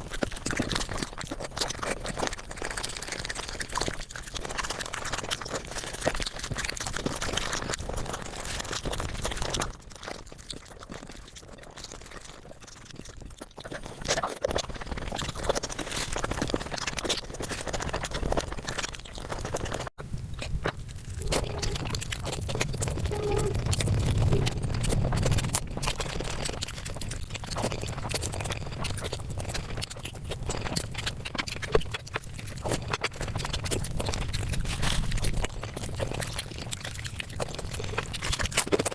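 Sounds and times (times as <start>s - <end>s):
sped-up chewing and smacking: 0.0s - 38.9s.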